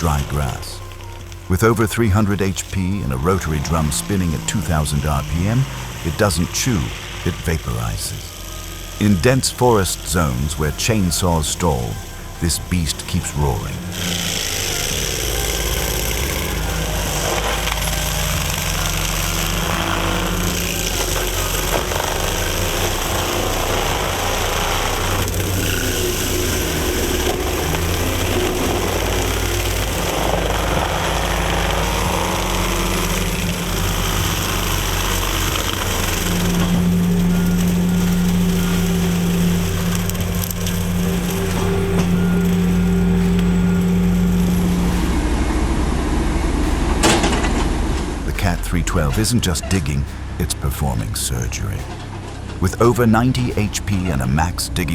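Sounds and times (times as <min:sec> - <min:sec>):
diesel machinery under load: 0:00.0 - 0:54.9
wood being cut and shredded: 0:00.0 - 0:54.9.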